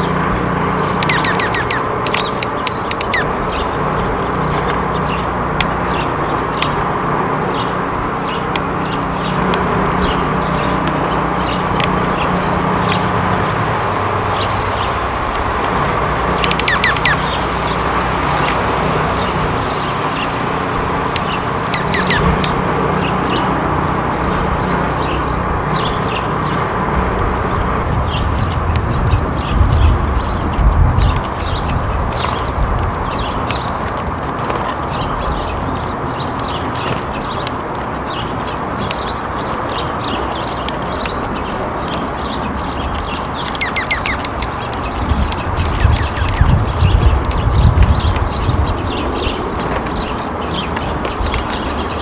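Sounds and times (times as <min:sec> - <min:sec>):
songbirds chirping: 0:00.0 - 0:52.0
steady rushing background noise: 0:00.0 - 0:52.0.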